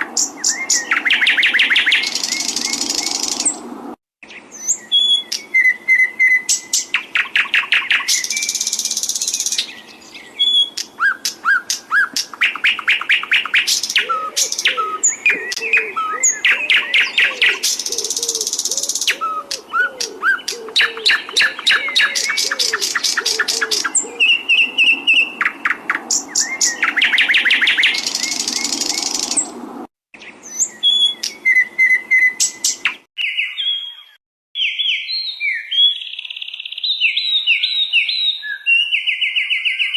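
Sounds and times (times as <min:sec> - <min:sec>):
songbird singing trills: 0:00.0 - 0:29.6, 0:30.2 - 0:39.9.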